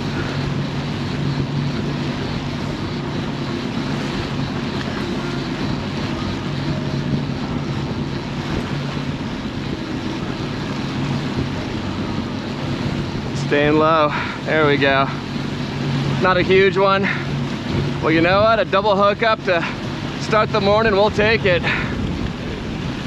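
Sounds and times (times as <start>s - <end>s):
outboard motors droning: 0.0s - 23.0s
wake rushing: 0.0s - 23.0s
wind on microphone: 0.0s - 23.0s.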